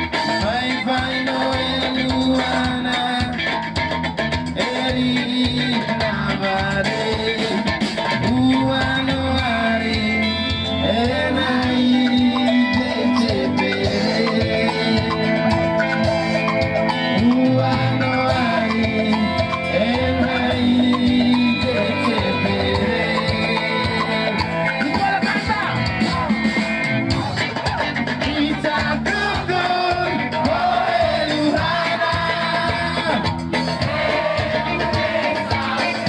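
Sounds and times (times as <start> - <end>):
live band playing: 0.0 - 36.0
person singing: 0.2 - 3.6, 4.5 - 26.4, 27.1 - 36.0.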